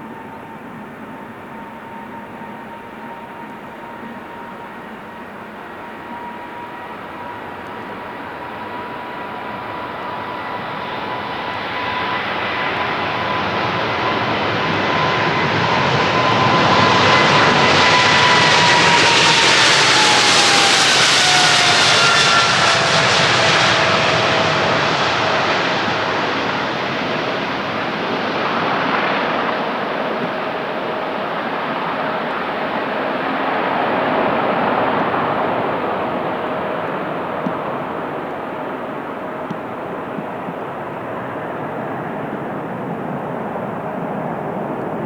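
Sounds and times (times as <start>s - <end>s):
jet fan whine: 0.0s - 45.0s
jet roar: 0.0s - 45.0s.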